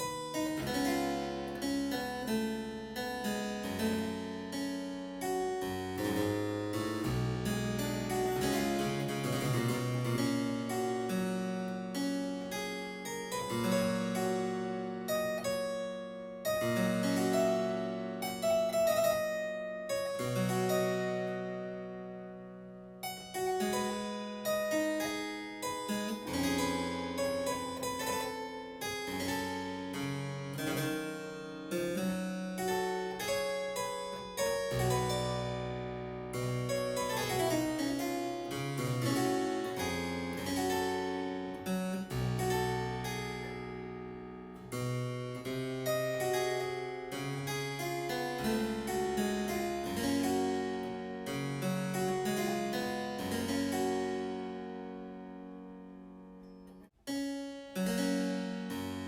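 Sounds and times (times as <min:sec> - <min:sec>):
solo harpsichord playing: 0:00.0 - 0:59.0.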